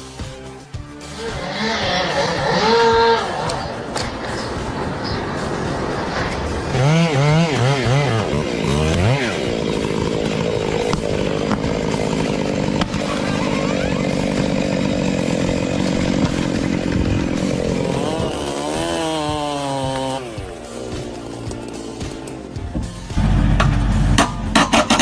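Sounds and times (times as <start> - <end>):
chainsaw revving and cutting: 0.9 - 25.0.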